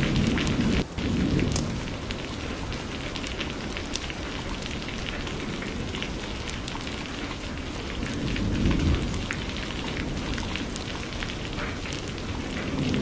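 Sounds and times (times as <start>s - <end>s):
low rumble of thunder: 0.0s - 13.0s
raindrops pattering: 0.0s - 13.0s.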